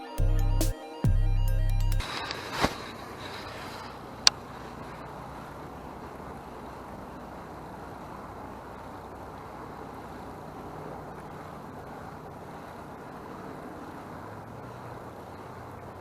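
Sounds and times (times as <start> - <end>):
boat motor droning: 1.2 - 16.0.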